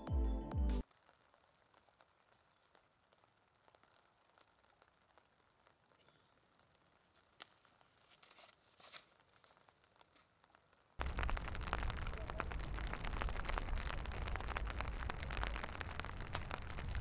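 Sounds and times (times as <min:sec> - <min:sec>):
faint crackles and clicks: 0:00.8 - 0:17.0.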